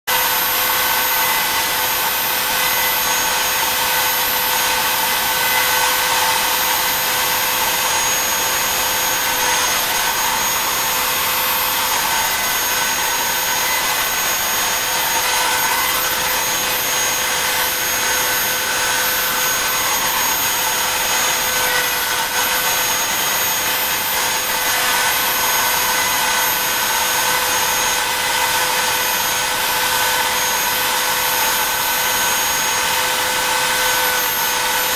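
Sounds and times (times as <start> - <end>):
cnc router spindle whining: 0.1 - 34.9.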